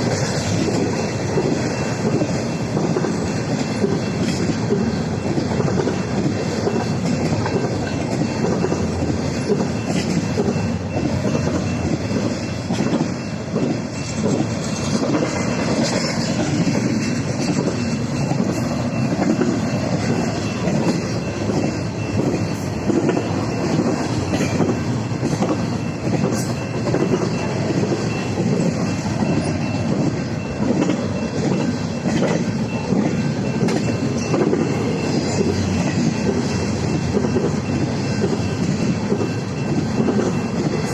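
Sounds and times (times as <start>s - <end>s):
freight train wheels rumbling on rail: 0.0s - 40.9s
wheels clacking over rail joints: 0.0s - 40.9s.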